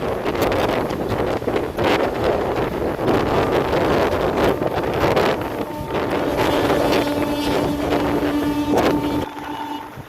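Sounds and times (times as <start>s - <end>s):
train rumbling and rattling: 0.0s - 10.0s
wind on microphone: 0.0s - 10.0s.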